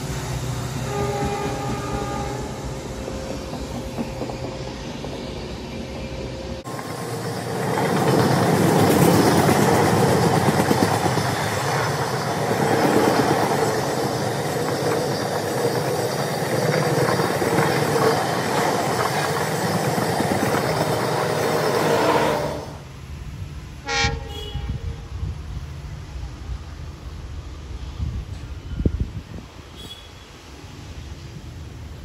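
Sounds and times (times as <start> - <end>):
train wheels rushing on rail: 0.0 - 32.0.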